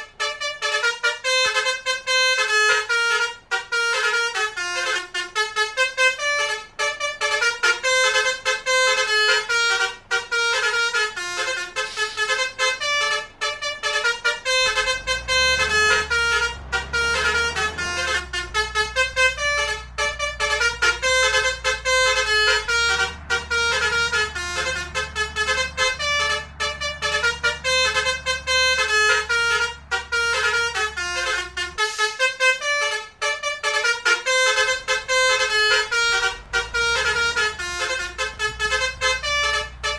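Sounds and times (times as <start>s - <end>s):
musical bus horn melodies: 0.0s - 39.9s.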